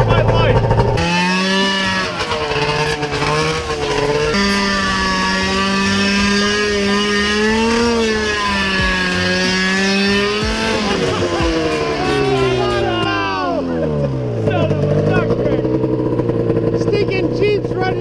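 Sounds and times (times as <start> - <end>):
two-stroke engine revving high: 0.0 - 18.0.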